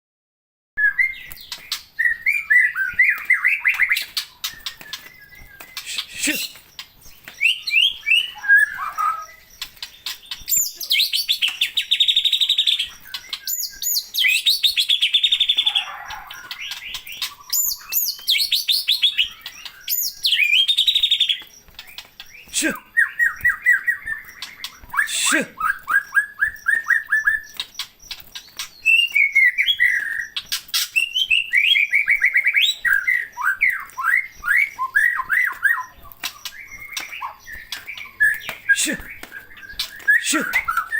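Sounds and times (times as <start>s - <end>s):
songbird chirps and trills: 0.8s - 40.9s.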